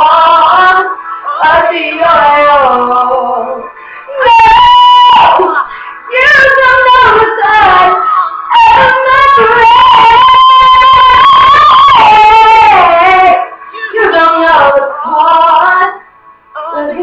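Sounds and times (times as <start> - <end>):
girl singing gospel loudly: 0.0 - 16.0.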